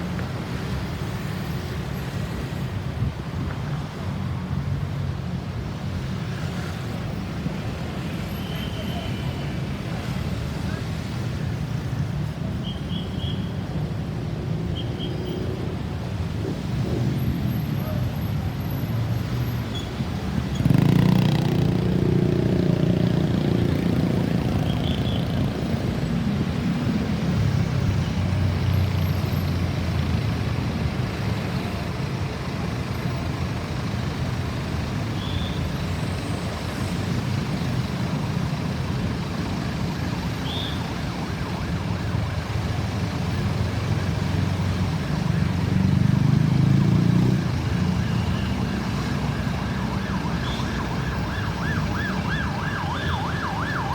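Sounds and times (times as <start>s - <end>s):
low traffic rumble: 0.0s - 53.9s.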